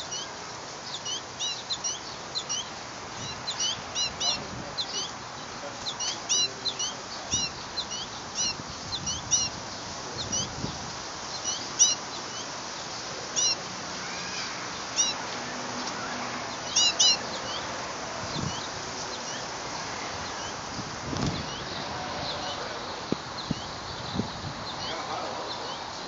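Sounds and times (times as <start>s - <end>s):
goldfinch chirping: 0.0s - 13.7s, 14.7s - 17.7s, 18.3s - 20.6s, 23.3s - 25.9s.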